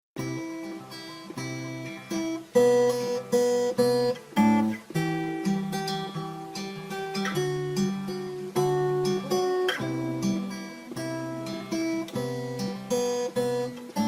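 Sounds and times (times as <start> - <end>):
acoustic guitar strumming chords: 0.2 - 14.0.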